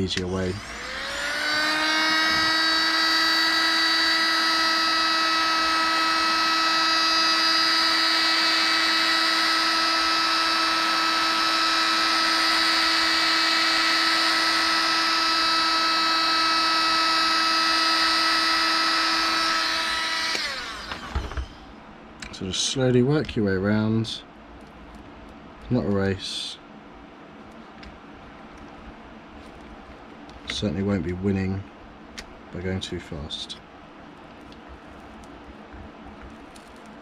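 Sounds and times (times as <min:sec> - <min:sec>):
heat gun fan whine: 0:00.0 - 0:37.0.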